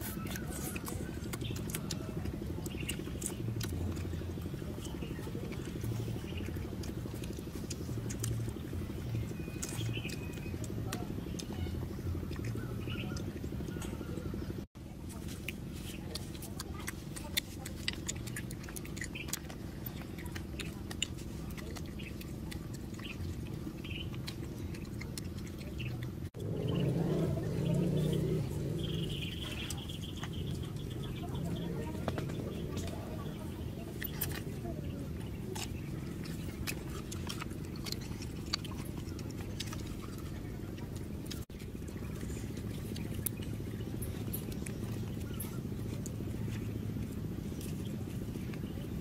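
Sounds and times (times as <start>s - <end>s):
steady low hum: 0.0s - 49.0s
steady low rumble: 0.0s - 49.0s.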